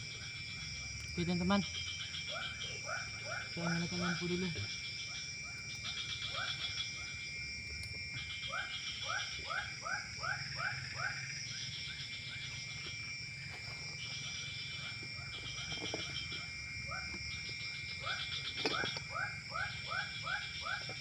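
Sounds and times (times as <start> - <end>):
insect drone with trills: 0.0 - 21.0.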